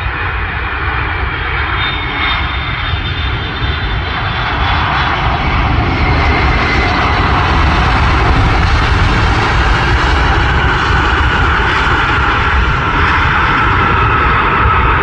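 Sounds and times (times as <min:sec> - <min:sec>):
airplane engines rushing: 0:00.0 - 0:15.0.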